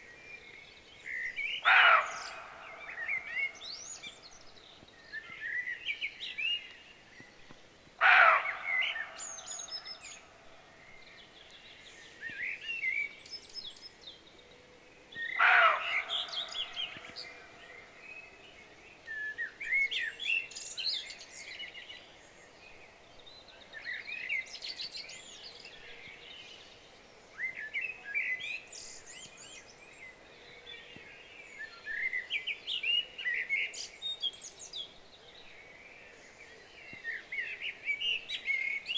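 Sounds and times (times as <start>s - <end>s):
small birds singing and chirping: 0.0s - 38.9s.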